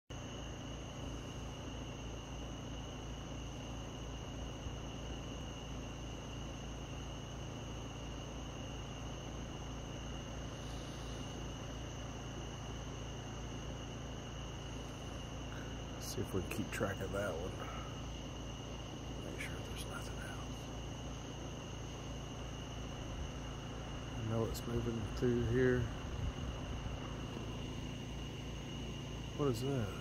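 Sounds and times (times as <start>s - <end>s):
crickets trilling: 0.1s - 30.0s
low steady hum: 0.1s - 30.0s.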